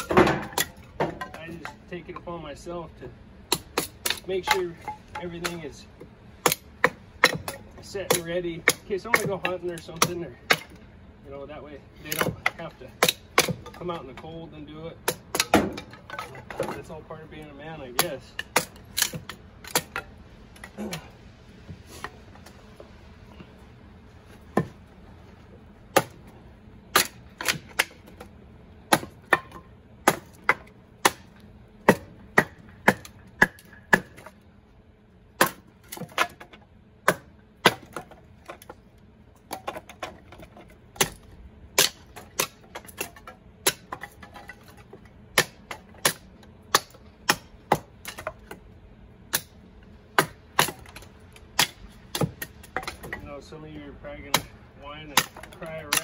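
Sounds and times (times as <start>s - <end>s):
hatchet chopping kindling: 0.0s - 2.3s, 3.5s - 10.8s, 12.0s - 21.1s, 24.4s - 24.9s, 25.9s - 28.3s, 28.9s - 34.4s, 35.4s - 38.8s, 39.4s - 48.6s, 49.3s - 53.3s, 54.2s - 56.0s.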